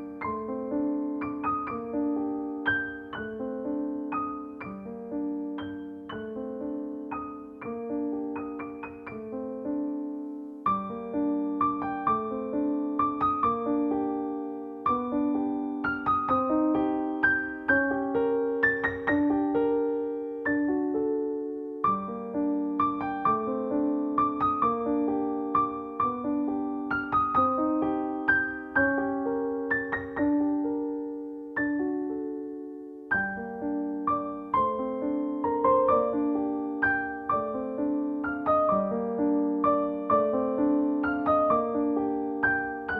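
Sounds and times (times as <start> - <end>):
gentle solo piano melody: 0.0 - 42.9.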